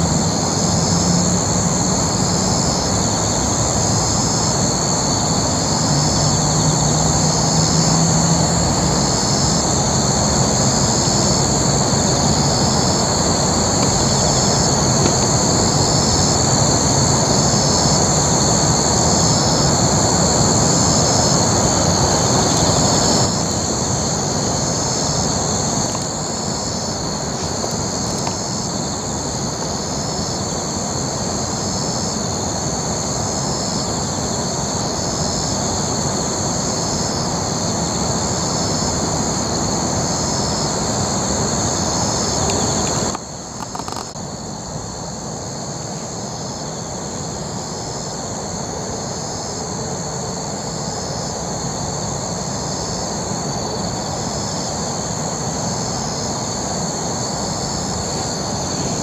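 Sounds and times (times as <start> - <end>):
crickets trilling: 0.0 - 59.0
insect chirp pulsing: 0.0 - 59.0.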